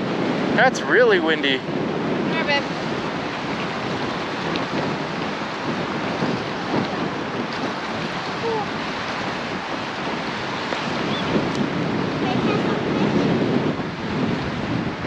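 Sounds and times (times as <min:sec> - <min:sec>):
strong gusting wind: 0:00.0 - 0:15.0
waves on a lake: 0:00.0 - 0:15.0
wind buffeting microphone: 0:00.0 - 0:15.0.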